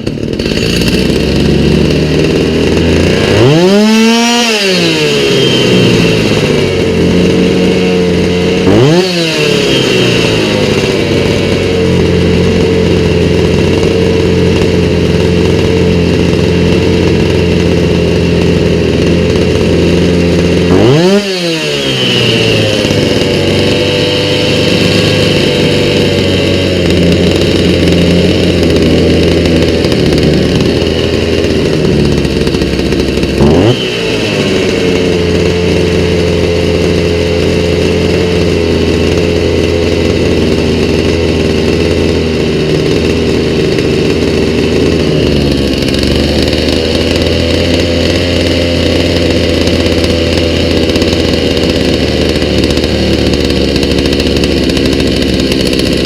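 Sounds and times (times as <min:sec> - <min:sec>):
chainsaw engine idling: 0:00.0 - 0:56.0.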